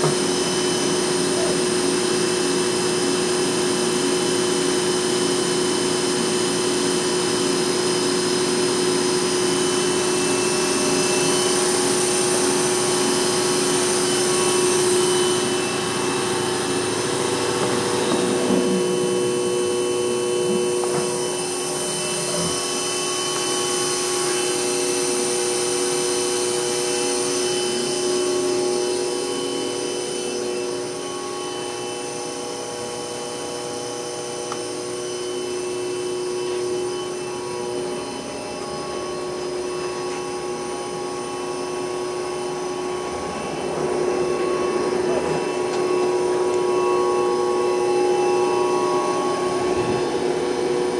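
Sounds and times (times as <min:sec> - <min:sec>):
machine hum with whine: 0:00.0 - 0:50.9.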